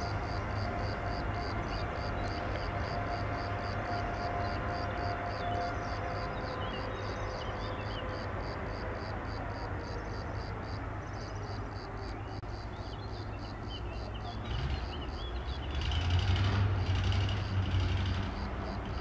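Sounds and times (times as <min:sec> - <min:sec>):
electric locomotive humming: 0:00.0 - 0:19.0.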